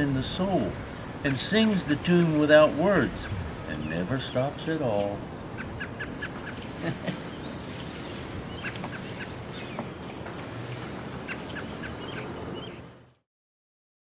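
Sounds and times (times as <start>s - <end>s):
steady background hiss: 0.0s - 13.1s
birds chirping: 0.0s - 13.2s.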